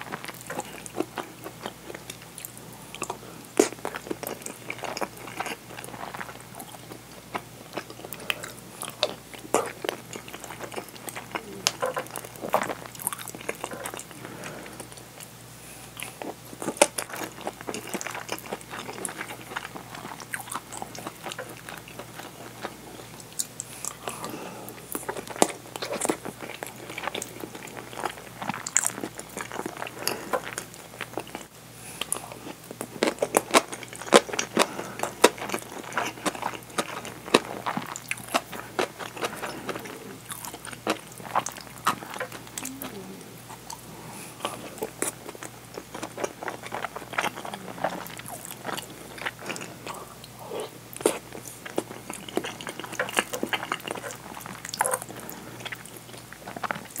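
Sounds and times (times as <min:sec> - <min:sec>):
close chewing with crunching: 0:00.0 - 0:57.0.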